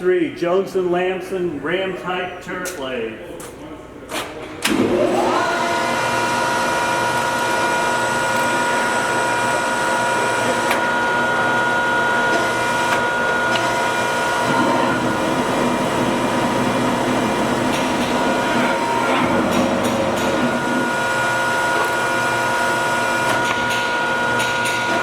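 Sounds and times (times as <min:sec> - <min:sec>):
lathe whining: 0:04.7 - 0:25.0.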